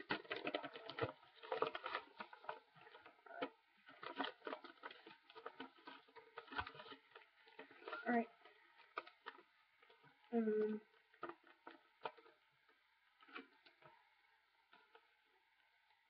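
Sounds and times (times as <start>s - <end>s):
paper rustling and crinkling: 0.0s - 15.2s.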